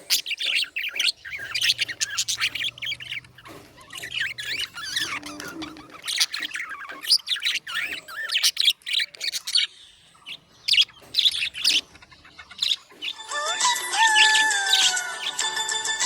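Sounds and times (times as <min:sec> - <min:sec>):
budgerigars chirping and warbling: 0:00.0 - 0:16.0.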